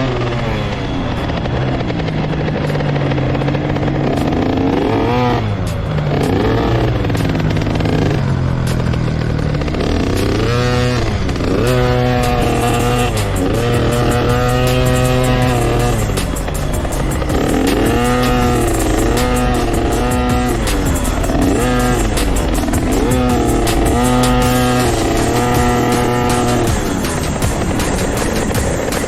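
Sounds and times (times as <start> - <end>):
dirt bike engine revving: 0.0 - 29.0
engine running steadily: 0.0 - 29.0.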